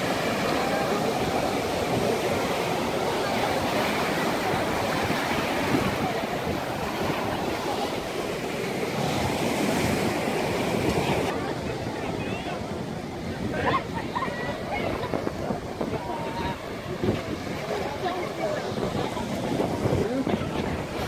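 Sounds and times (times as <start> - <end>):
waves breaking on rocky shore: 0.0 - 21.0.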